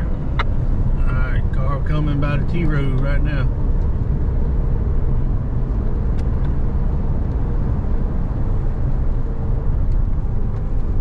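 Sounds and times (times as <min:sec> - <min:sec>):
truck engine and tyre drone: 0:00.0 - 0:11.0.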